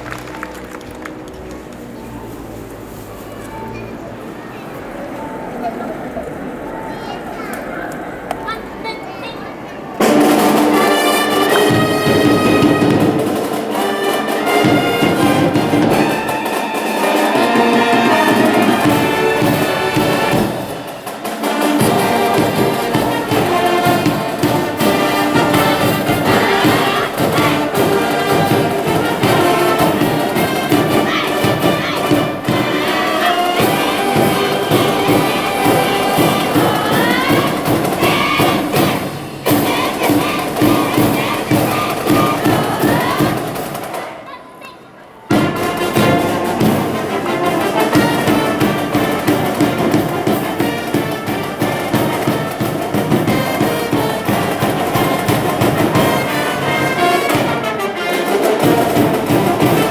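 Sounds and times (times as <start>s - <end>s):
brass band playing: 9.3s - 44.2s, 45.3s - 59.9s
steady drum beat: 10.0s - 44.0s, 45.3s - 59.9s.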